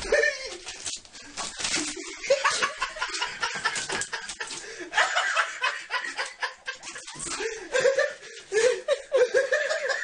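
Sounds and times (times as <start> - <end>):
person snickering and chuckling: 0.0 - 10.0.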